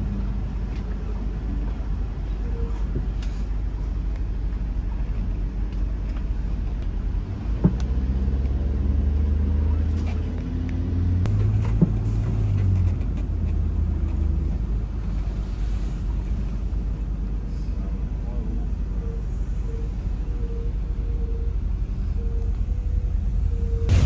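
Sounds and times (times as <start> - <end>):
bus engine running: 0.0 - 24.0
road noise: 0.0 - 24.0.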